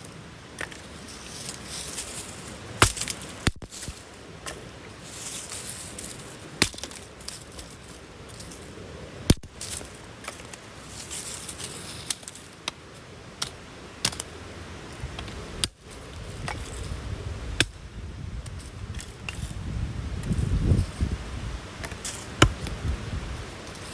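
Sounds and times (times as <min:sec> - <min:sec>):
low background hiss: 0:00.0 - 0:23.9.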